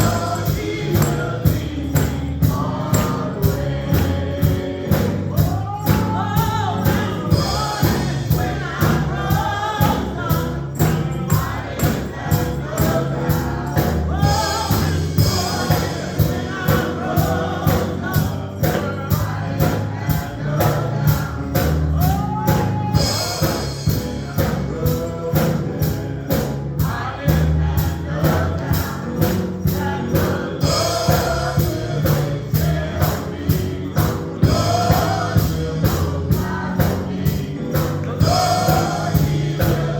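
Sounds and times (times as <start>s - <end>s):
bass: 0.0s - 39.9s
choir singing gospel music: 0.0s - 39.9s
tambourine: 0.0s - 39.9s.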